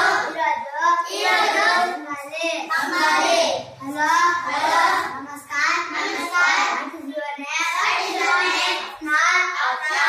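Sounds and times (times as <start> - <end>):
children chanting: 0.0 - 6.9, 7.6 - 10.0.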